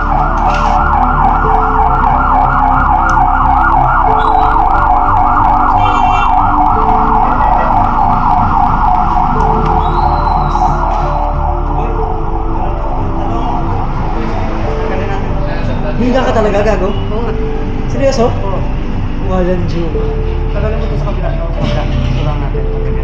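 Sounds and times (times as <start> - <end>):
loud warbling siren: 0.0 - 19.3
low held tones: 0.0 - 21.5.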